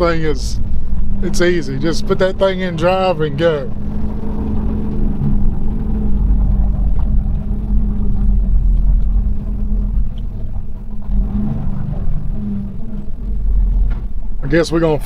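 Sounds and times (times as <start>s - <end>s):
road noise: 0.0s - 15.0s
truck diesel engine rumble: 0.0s - 15.0s.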